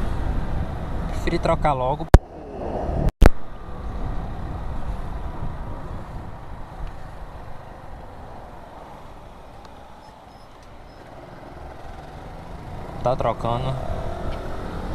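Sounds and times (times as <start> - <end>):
motorcycle riding rumble: 0.0 - 1.3, 2.0 - 14.9.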